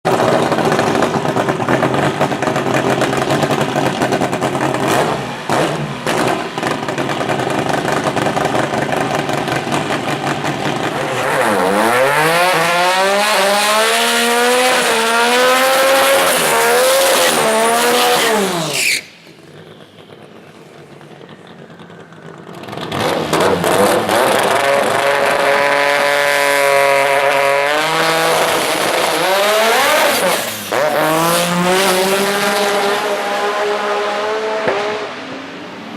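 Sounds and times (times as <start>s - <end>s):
drag car engine revving: 0.1s - 35.5s.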